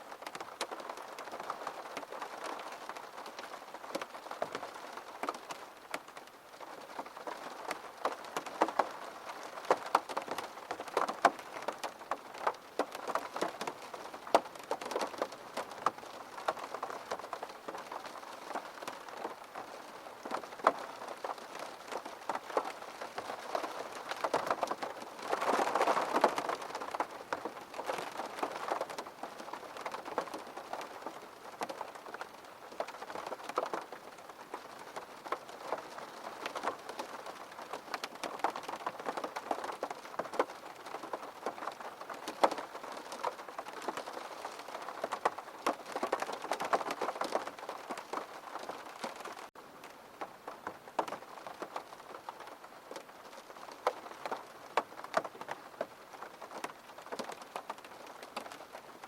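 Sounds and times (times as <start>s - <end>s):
rain on a hard surface: 0.0s - 59.0s.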